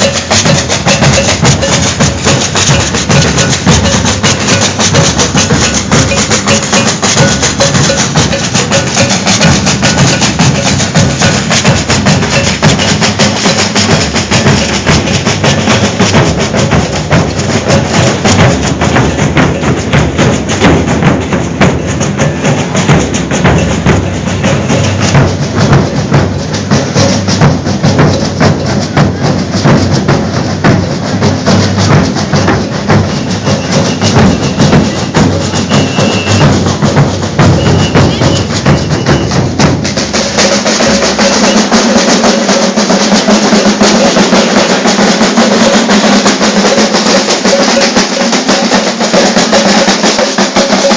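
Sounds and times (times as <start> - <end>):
bass drums: 0.0 - 50.9
shakers: 0.0 - 50.9
snare drums: 0.0 - 50.9.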